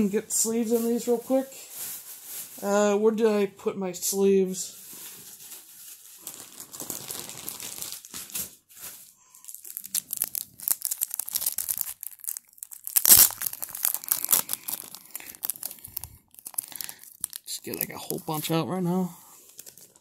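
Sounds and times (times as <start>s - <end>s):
plastic sleeves crinkling: 0.4s - 2.9s, 4.5s - 20.0s.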